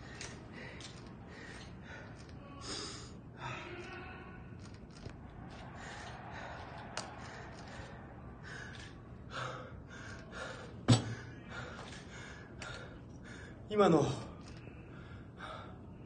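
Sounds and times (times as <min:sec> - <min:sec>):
man breathing hard: 0:00.0 - 0:03.5, 0:05.6 - 0:13.7, 0:14.4 - 0:16.0.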